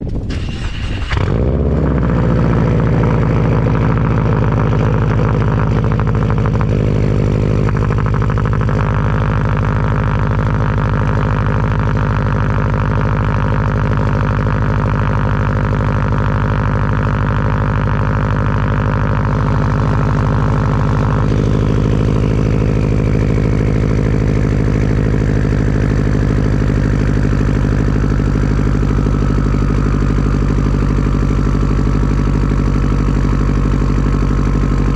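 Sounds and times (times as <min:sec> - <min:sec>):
car engine starting and idling: 0:00.0 - 0:34.9.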